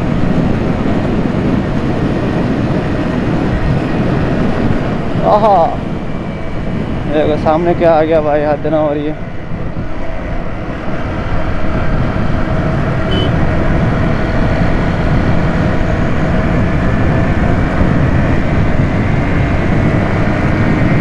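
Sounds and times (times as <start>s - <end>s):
motorcycle running: 0.0s - 21.0s
wind rushing over microphone: 0.0s - 21.0s.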